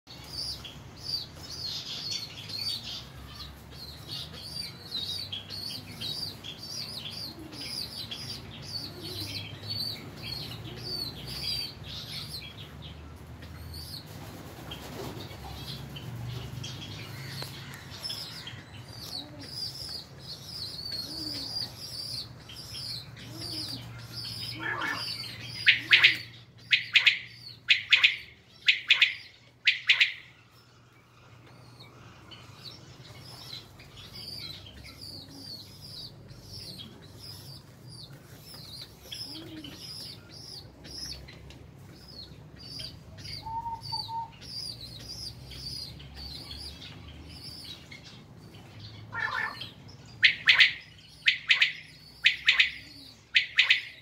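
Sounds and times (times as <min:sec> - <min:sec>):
small birds chirping: 0:00.1 - 0:54.0
pigeons cooing: 0:03.8 - 0:12.6, 0:13.4 - 0:30.4, 0:31.0 - 0:54.0.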